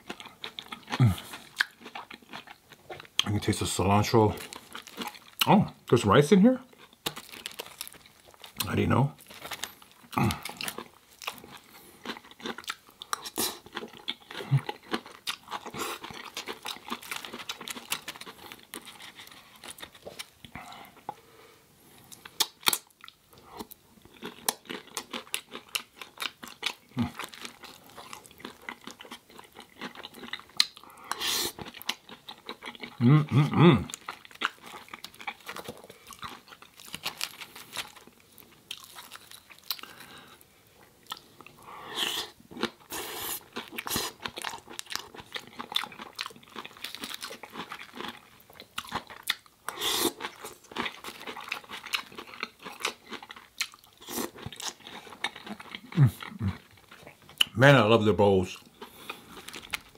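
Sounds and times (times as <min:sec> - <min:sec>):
chewing and crunching: 0:00.0 - 0:21.2, 0:21.9 - 0:57.6, 0:58.2 - 0:59.9.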